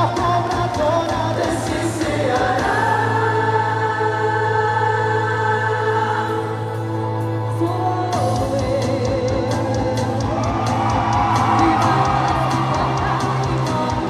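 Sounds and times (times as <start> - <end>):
music with singing: 0.0 - 14.0.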